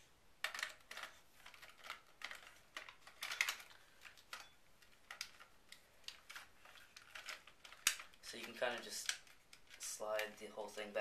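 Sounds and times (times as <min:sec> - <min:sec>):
plastic parts clicking and rattling: 0:00.4 - 0:11.0.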